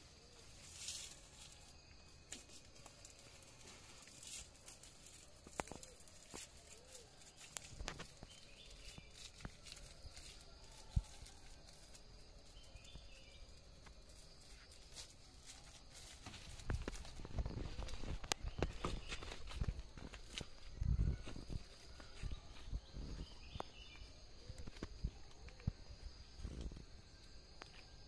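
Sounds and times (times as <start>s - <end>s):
leaves rustling and clicking: 0.0s - 28.0s.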